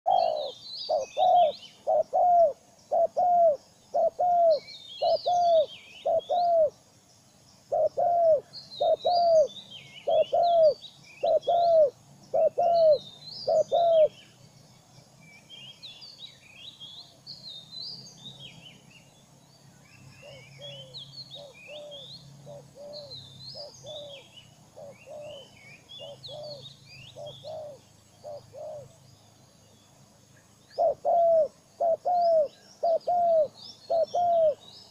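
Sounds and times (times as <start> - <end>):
small birds chirping and twittering: 0.1 - 34.9.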